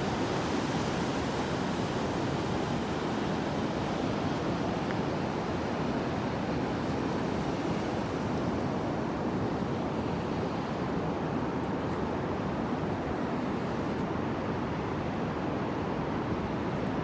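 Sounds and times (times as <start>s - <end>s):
surf washing on a beach: 0.0s - 17.0s.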